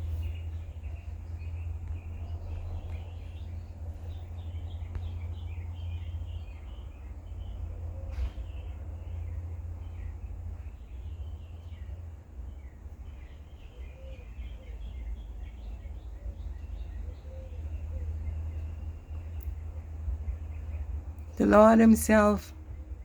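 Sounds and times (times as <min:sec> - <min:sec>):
birds chirping: 0:00.0 - 0:22.5
low outdoor rumble: 0:00.0 - 0:23.0.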